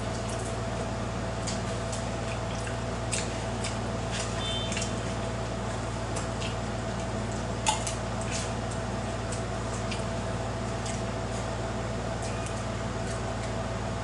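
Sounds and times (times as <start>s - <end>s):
steady low hum: 0.0s - 14.0s
wet chewing: 1.4s - 13.7s.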